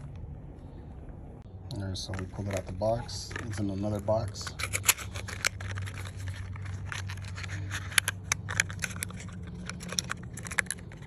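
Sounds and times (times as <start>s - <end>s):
steady low hum: 0.0s - 11.0s
packaging clicks and crackles: 1.9s - 11.0s.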